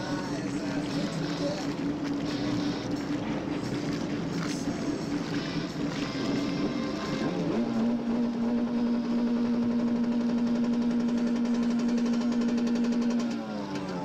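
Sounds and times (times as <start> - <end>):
jet ski engine running: 0.0 - 14.0.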